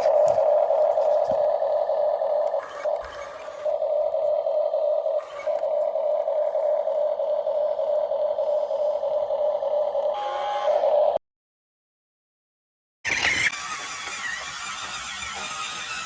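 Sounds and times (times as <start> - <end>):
small electric motor drone: 0.0 - 11.2, 13.1 - 16.0.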